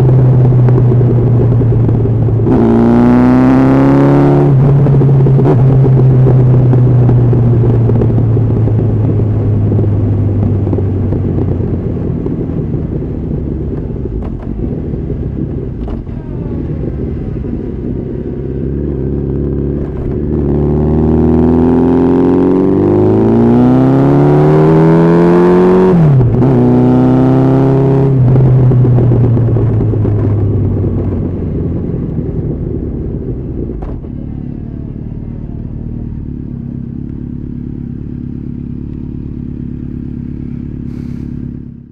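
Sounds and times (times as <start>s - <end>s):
wind noise: 0.0s - 34.5s
motorcycle engine accelerating: 0.0s - 41.9s.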